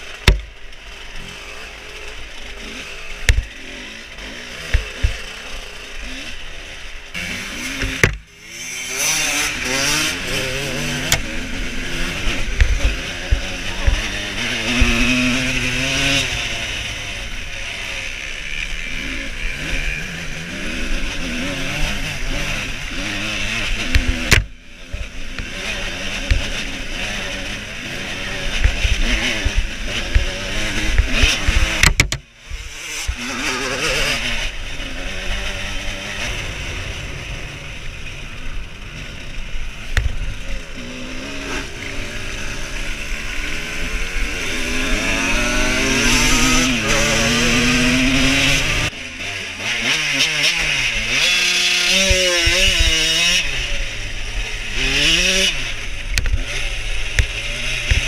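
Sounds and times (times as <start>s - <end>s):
two-stroke motorbike engine revving: 0.0s - 58.0s.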